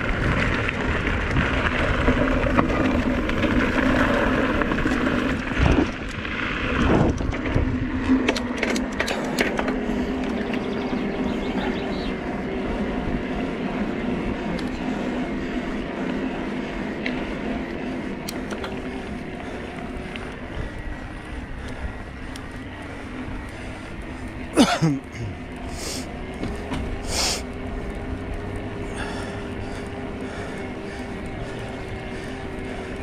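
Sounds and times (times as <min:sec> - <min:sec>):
electric motor hum: 0:00.0 - 0:33.0
tyres rolling on ribbed path: 0:00.0 - 0:33.0.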